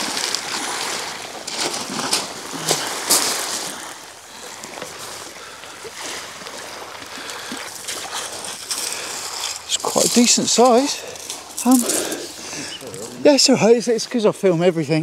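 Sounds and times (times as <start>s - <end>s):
small waves splashing on shingle: 0.0s - 13.2s.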